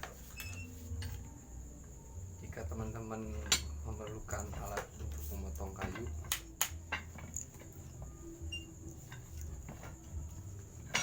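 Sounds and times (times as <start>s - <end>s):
cricket trill: 0.0s - 11.0s.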